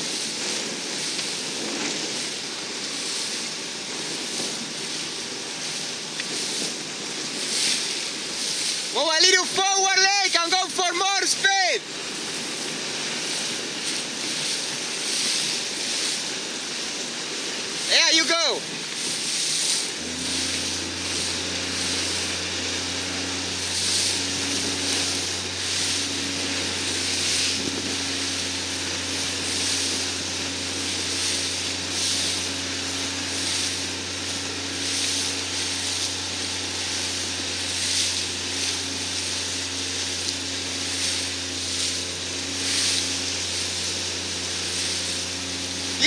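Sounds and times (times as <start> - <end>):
motorboat engine running: 0.0 - 46.0
water spray rushing from hull: 0.0 - 46.0.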